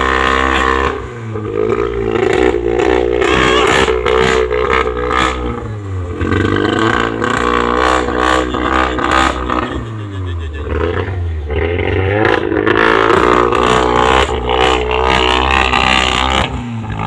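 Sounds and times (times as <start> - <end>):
car engine revving: 0.0 - 17.0
exhaust cracks: 0.0 - 17.0.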